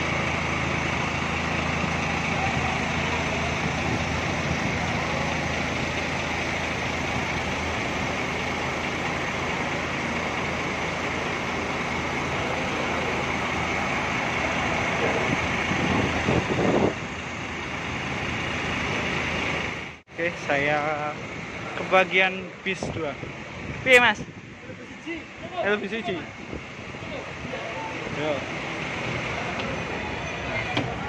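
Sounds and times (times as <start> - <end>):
diesel bus engine idling: 0.0 - 31.0
high whine: 0.0 - 31.0.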